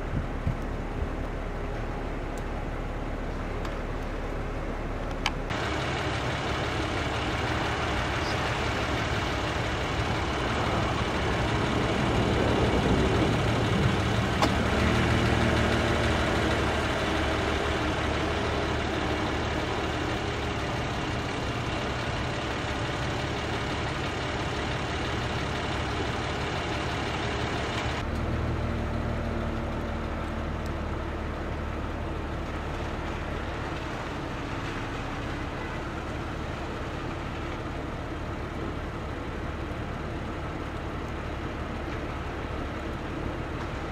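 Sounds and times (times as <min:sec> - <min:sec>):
vehicle engine and traffic: 0:00.0 - 0:43.9.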